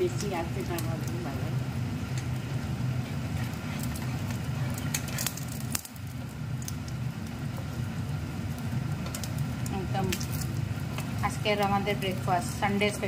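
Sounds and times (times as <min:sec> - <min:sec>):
bread frying in oil: 0:00.0 - 0:13.0
steady low hum: 0:00.0 - 0:13.0.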